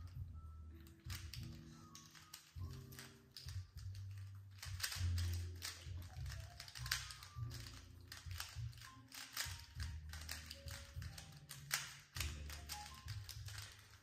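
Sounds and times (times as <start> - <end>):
puzzle cube clicking: 0.8 - 14.0.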